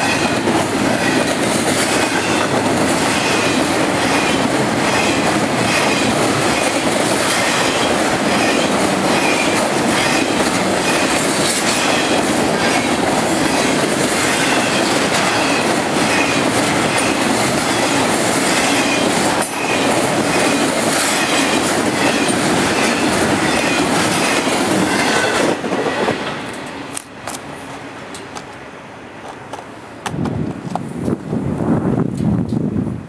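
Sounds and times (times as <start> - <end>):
freight train wheels rumbling on rail: 0.0 - 33.0.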